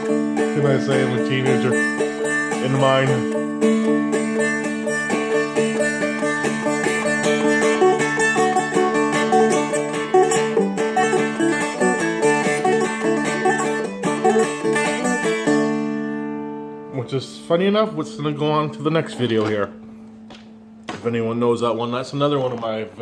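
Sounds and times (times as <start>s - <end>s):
dulcimer picked and strummed: 0.0s - 20.4s.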